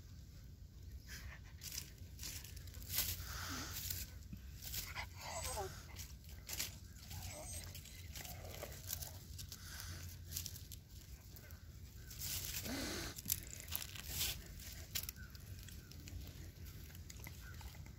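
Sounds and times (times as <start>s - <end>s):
dry leaves crackling and rustling: 1.2s - 17.9s.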